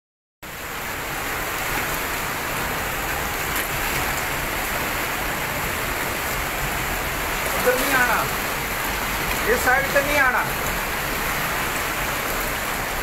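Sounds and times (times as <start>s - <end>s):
floodwater rushing: 0.5s - 13.0s.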